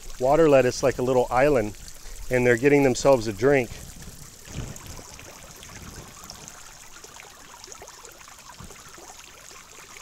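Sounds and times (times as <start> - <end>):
fountain spray splashing on water: 0.0 - 10.0.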